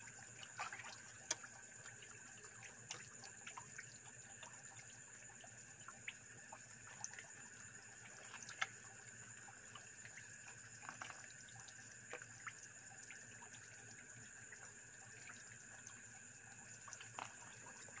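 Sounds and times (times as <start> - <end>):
fish splashing at water surface: 0.1 - 18.0.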